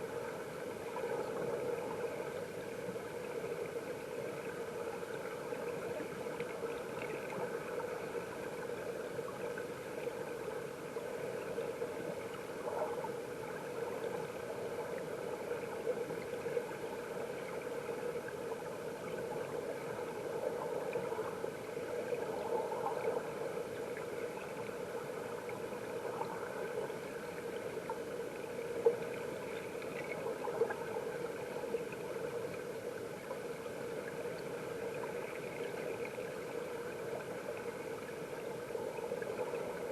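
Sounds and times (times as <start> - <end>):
muffled underwater stream rushing: 0.0 - 39.9.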